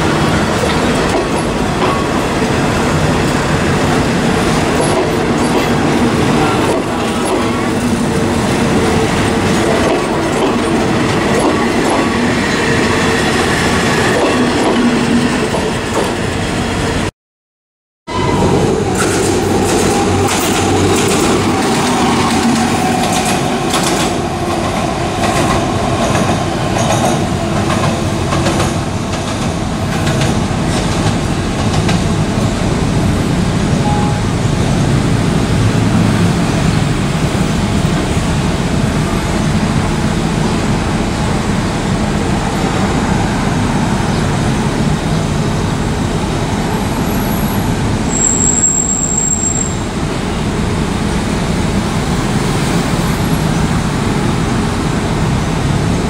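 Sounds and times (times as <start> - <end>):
train rumbling past: 0.0 - 17.1, 18.1 - 56.0.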